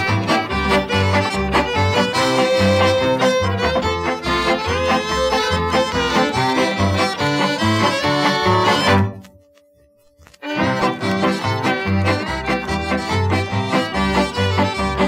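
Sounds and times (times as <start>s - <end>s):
fiddle: 0.0s - 9.6s, 10.2s - 15.0s
bass line: 0.0s - 15.0s.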